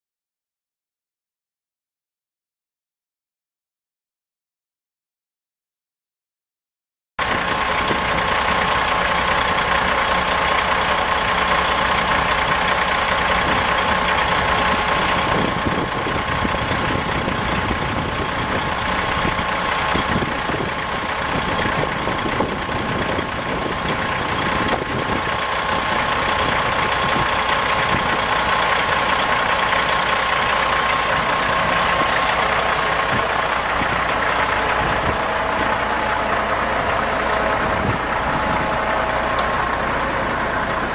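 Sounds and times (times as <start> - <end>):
diesel truck engine idling: 7.2 - 40.9.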